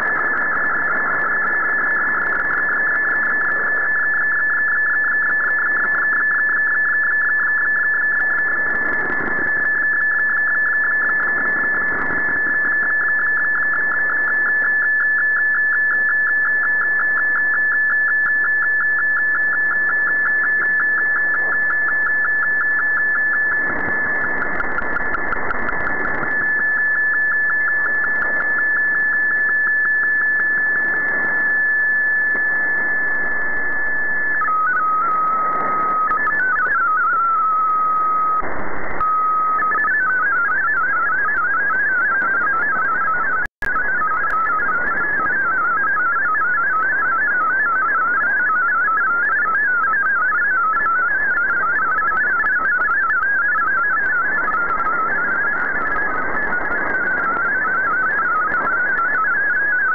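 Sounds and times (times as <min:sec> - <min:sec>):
fluttering data tone: 0:00.0 - 0:59.9
shortwave static: 0:00.0 - 0:59.9.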